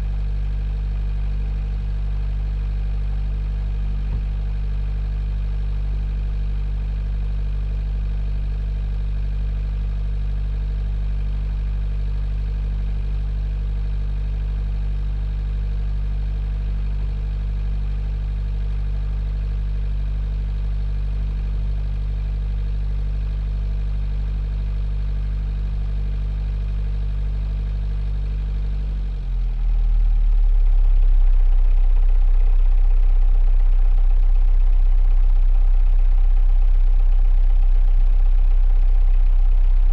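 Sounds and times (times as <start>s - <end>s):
diesel engine low drone: 0.0s - 39.9s.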